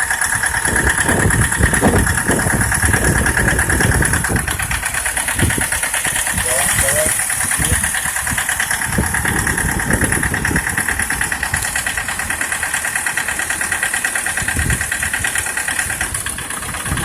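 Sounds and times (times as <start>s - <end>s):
engine idling with knocking: 0.0s - 17.0s.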